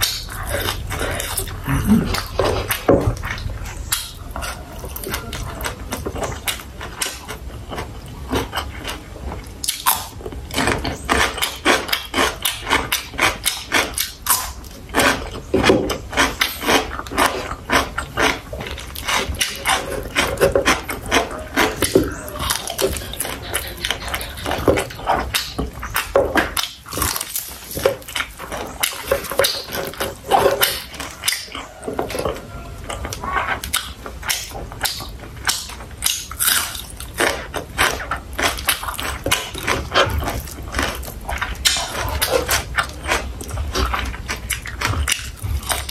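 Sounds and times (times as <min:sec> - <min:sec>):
mouth clicks and smacks: 0:00.0 - 0:31.7, 0:33.0 - 0:45.9
person chewing food: 0:00.0 - 0:45.9.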